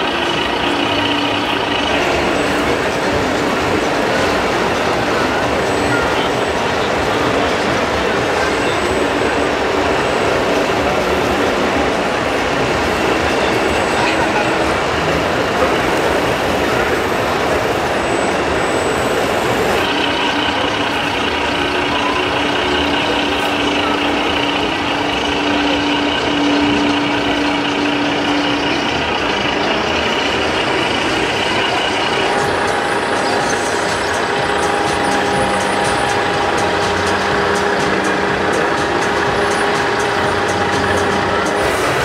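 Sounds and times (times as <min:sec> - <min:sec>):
crowd hubbub: 0:00.0 - 0:42.0
electronic truck engine sounds: 0:00.0 - 0:42.0.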